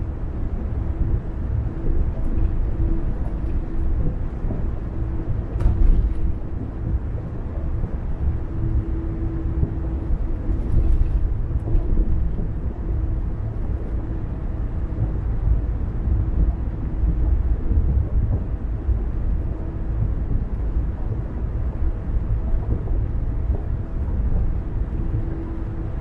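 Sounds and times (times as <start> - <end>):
faint steady hum: 0.0 - 26.0
road and engine rumble: 0.0 - 26.0.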